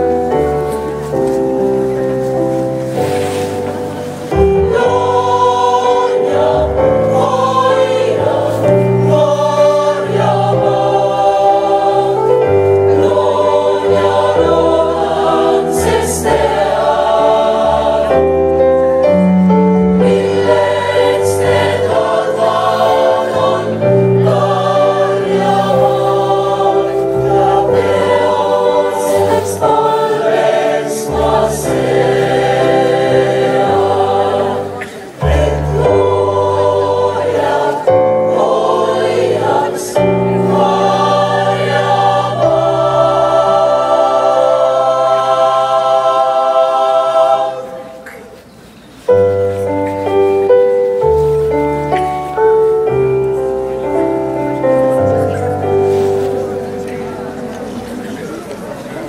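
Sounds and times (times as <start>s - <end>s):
mixed choir singing in harmony: 0.0s - 52.6s.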